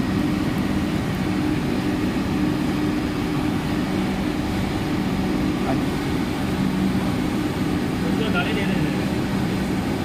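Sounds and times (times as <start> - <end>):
electrical machinery humming: 0.0 - 10.0.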